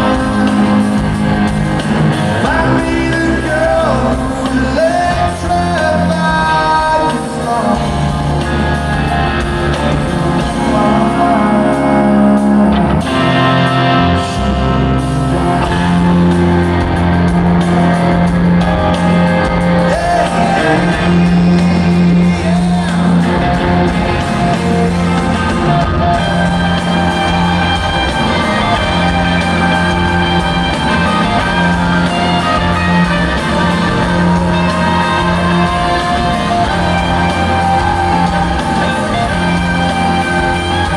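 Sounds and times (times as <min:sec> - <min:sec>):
man singing: 0:00.0 - 0:09.1, 0:09.7 - 0:17.0, 0:19.8 - 0:40.9
live rock band playing: 0:00.0 - 0:40.9.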